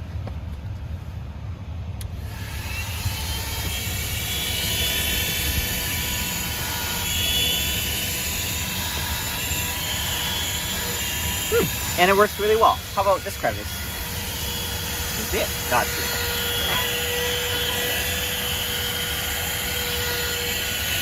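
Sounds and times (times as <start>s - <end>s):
vacuum motor whine: 2.0s - 21.0s.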